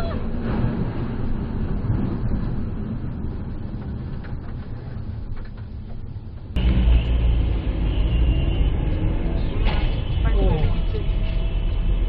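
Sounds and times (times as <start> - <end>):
heavy vehicle engine rumble: 0.0 - 12.0.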